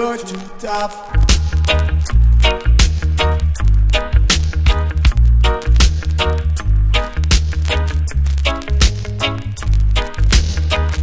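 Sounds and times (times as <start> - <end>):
reggae music: 0.0 - 11.0.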